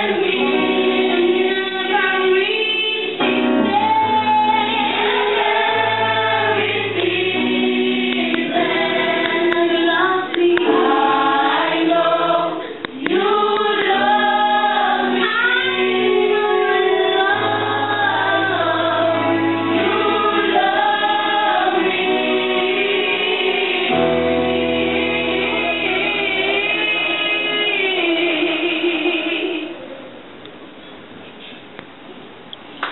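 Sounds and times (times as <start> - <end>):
choir singing a hymn: 0.0 - 29.8.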